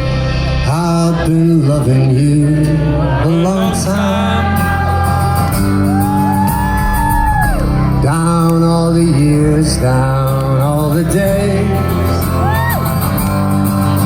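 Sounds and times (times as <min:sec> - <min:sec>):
live band playing slow ballad: 0:00.0 - 0:14.0.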